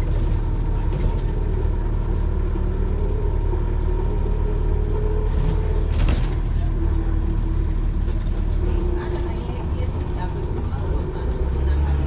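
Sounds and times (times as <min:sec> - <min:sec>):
bus drivetrain rumble: 0:00.0 - 0:12.0.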